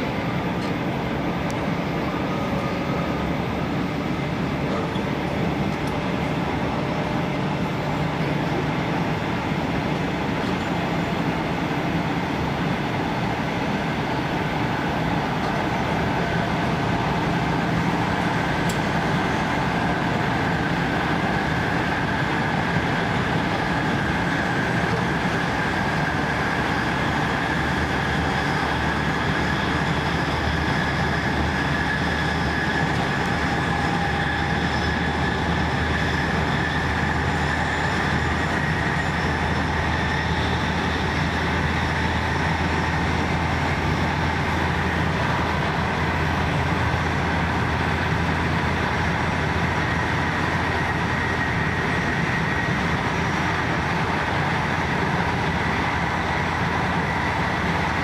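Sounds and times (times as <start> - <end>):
thin high whine: 0.0 - 58.0
train wheels rumbling on rail: 0.0 - 58.0.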